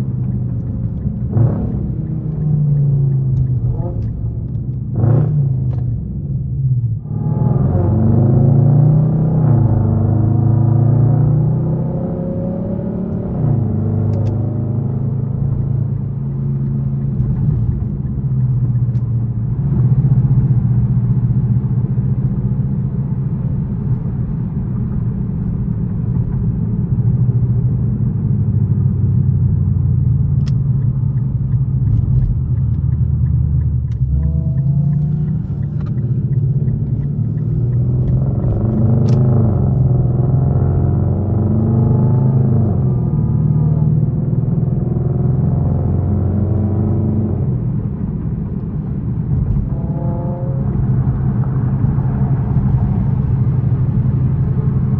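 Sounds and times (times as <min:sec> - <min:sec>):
car exhaust rumbling while driving: 0:00.0 - 0:54.9.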